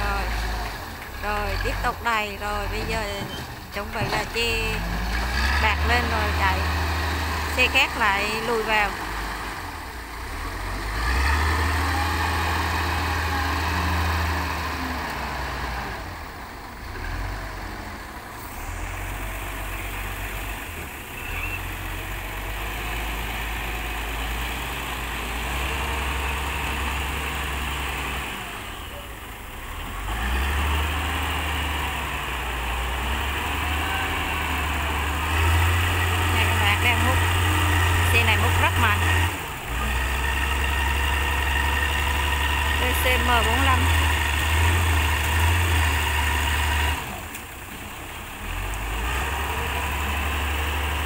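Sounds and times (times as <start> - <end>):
diesel engine revving: 0.0 - 51.0.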